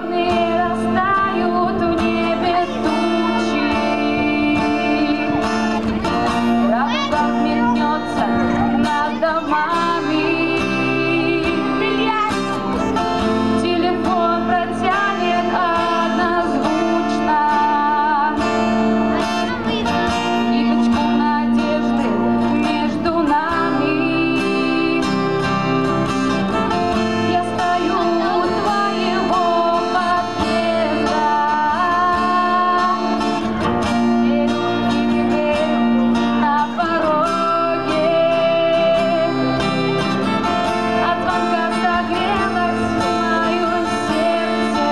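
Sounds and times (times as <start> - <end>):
woman singing: 0.0 - 25.8, 26.4 - 44.9
acoustic guitar strumming: 0.0 - 44.9.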